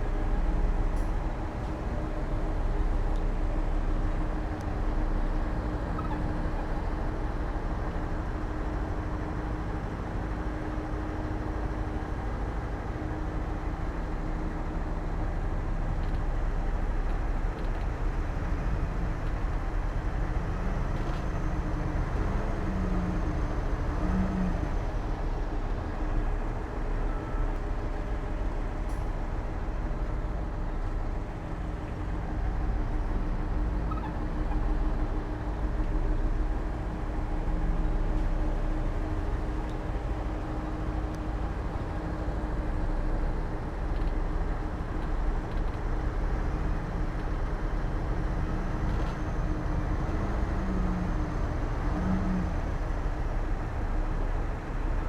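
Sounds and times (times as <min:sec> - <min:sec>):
diesel machinery engine rumbling: 0:00.0 - 0:55.0.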